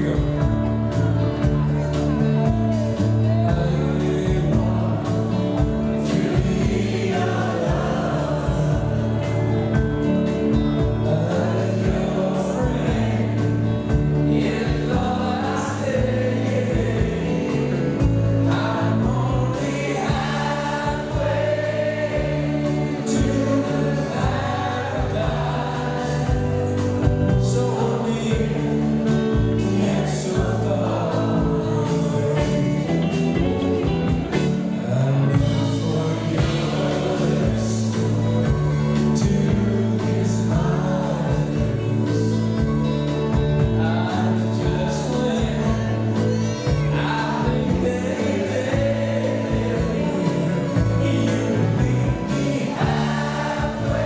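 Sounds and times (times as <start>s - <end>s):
drums: 0.0s - 54.0s
electric bass guitar: 0.0s - 54.0s
electric guitars: 0.0s - 54.0s
man singing: 0.0s - 54.0s.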